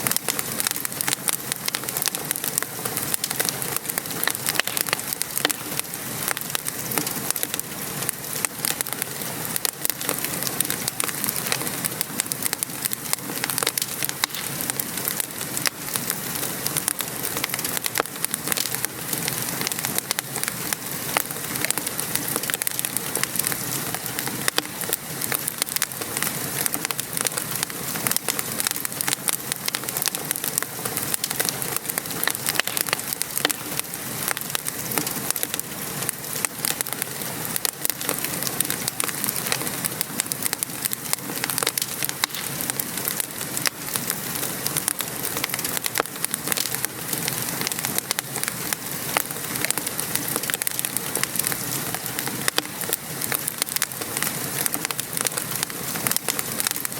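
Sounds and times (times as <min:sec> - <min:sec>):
fire crackling: 0:00.0 - 0:56.9
rain pattering: 0:00.0 - 0:56.9.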